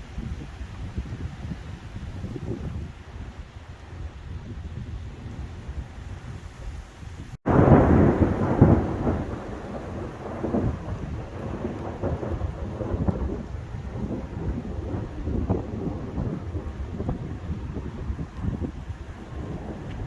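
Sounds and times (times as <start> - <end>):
thunderclap rolling rumble: 0.0 - 6.6, 7.2 - 20.0
wind rumbling on microphone: 0.0 - 20.0.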